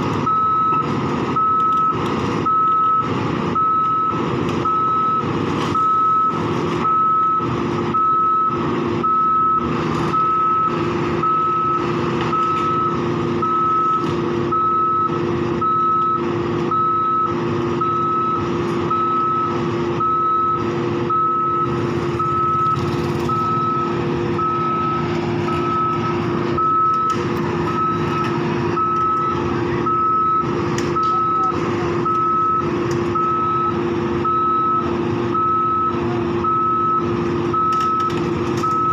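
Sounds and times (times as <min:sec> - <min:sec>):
diesel engine running: 0:00.0 - 0:38.9
warning alarm beeping: 0:00.2 - 0:38.9.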